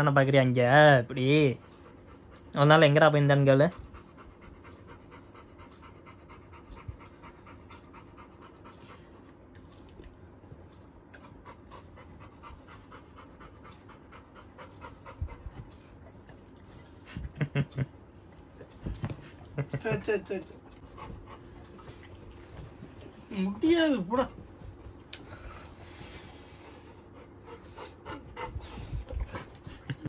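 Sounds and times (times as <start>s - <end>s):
dog panting: 0.4s - 30.0s.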